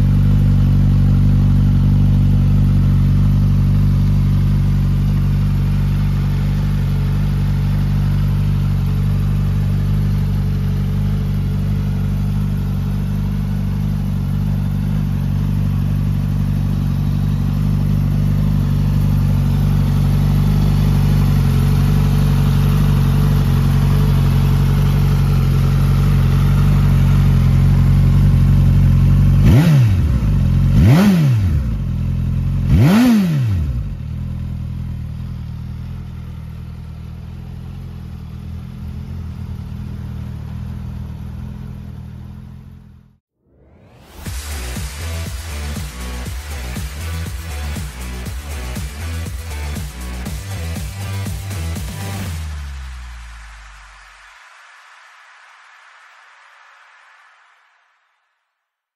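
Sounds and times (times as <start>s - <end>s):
engine revving: 0.0s - 35.3s, 38.7s - 54.8s
motorcycle engine idling: 0.0s - 43.2s, 44.3s - 53.0s.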